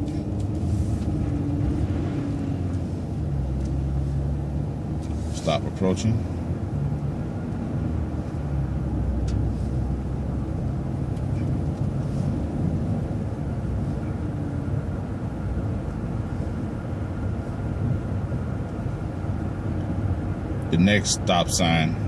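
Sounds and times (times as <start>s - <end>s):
bus engine rumbling: 0.0s - 22.0s
road noise: 0.0s - 22.0s.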